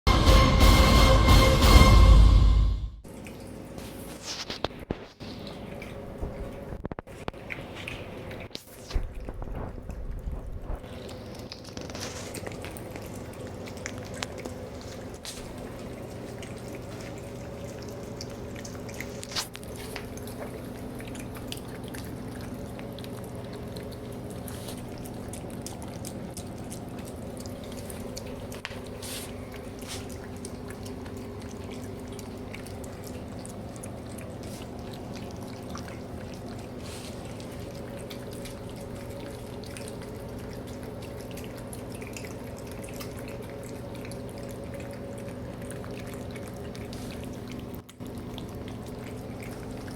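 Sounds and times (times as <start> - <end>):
steady low hum: 0.1 - 49.9
cats chewing and licking: 3.0 - 49.9.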